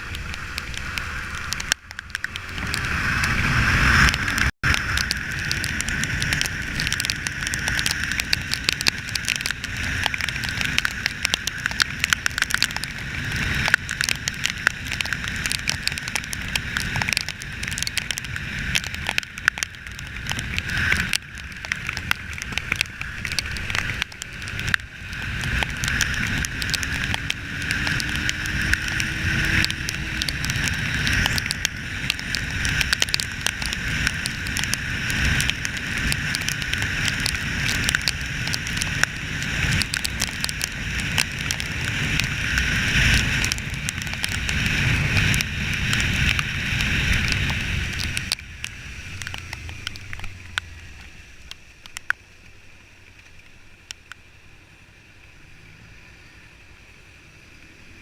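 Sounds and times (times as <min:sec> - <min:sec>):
wind rushing over microphone: 0:00.0 - 0:51.4
motorcycle engine running: 0:00.0 - 0:53.0
small ticks: 0:04.0 - 0:54.3.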